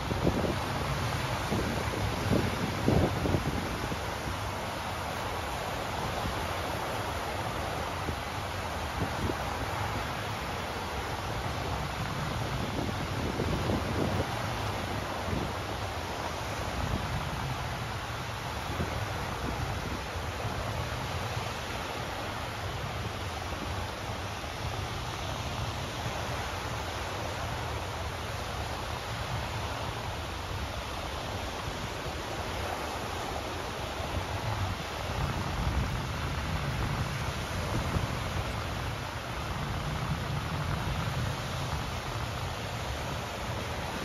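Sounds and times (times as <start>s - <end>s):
surf breaking on beach: 0.0s - 44.0s.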